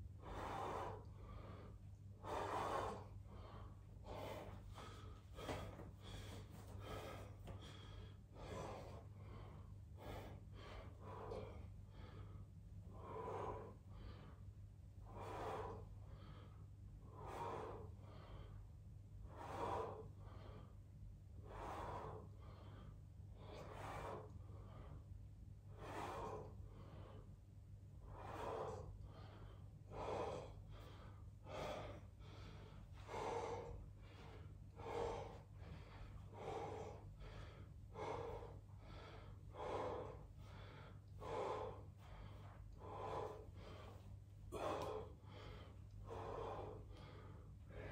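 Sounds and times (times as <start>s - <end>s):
man breathing hard: 0.0s - 47.9s
steady low hum: 0.0s - 47.9s.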